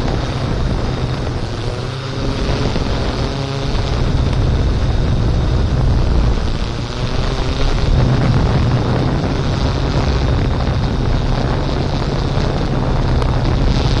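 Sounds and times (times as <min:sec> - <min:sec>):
drone propellers humming: 0:00.0 - 0:14.0
wind on microphone: 0:00.0 - 0:14.0.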